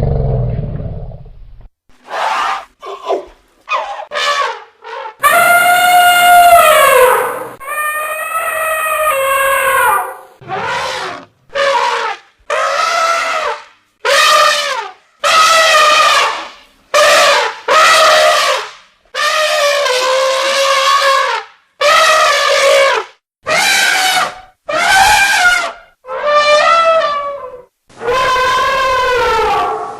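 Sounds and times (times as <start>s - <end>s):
elephant trumpeting: 2.0s - 29.9s.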